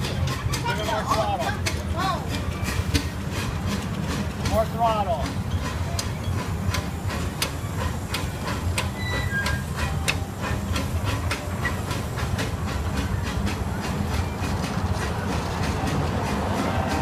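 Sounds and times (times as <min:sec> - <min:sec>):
miniature train rumbling: 0:00.0 - 0:17.0
wheels clicking over rail joints: 0:00.0 - 0:17.0.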